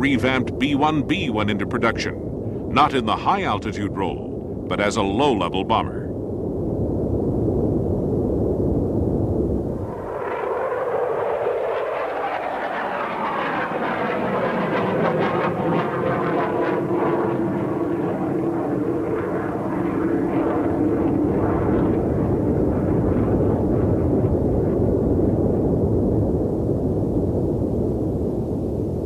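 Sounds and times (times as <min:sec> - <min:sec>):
jet bomber flying past: 0:00.0 - 0:29.0.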